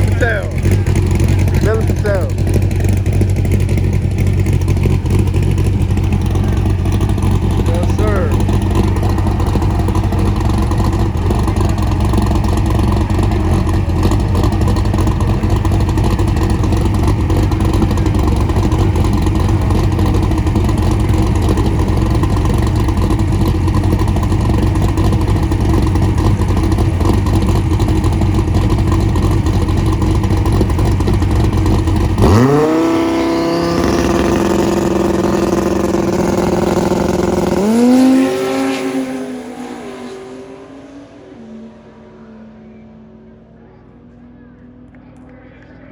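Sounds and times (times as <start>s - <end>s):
drag car engine revving: 0.0s - 45.9s.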